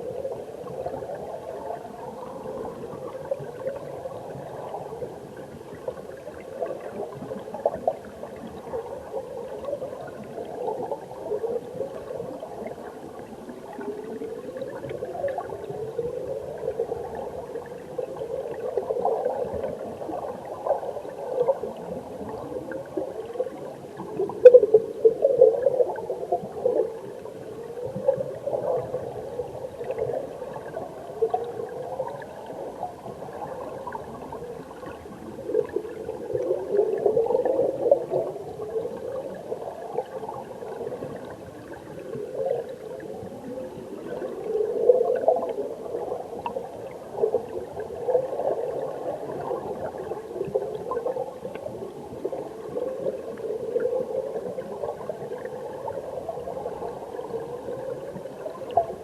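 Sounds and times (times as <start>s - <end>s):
underwater stream bubbling: 0.0s - 59.0s.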